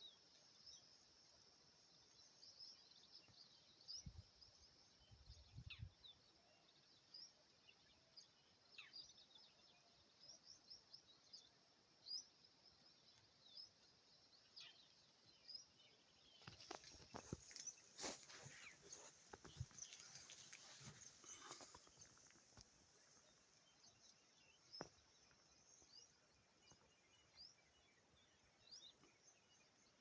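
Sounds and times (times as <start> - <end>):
birds chirping: 1.8 - 30.0.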